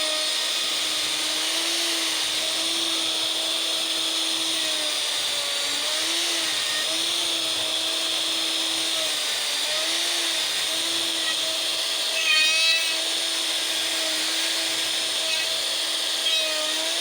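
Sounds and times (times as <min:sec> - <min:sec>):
router cutting wood: 0:00.0 - 0:17.0.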